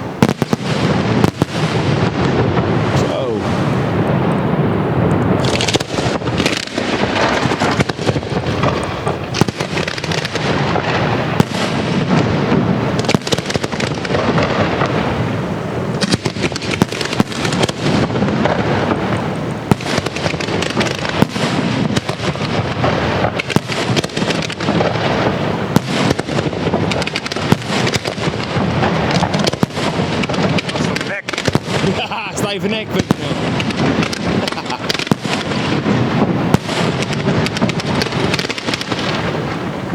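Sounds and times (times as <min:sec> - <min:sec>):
continuous crackle and rumble: 0:00.0 - 0:39.9
fireworks bursting: 0:00.0 - 0:39.9.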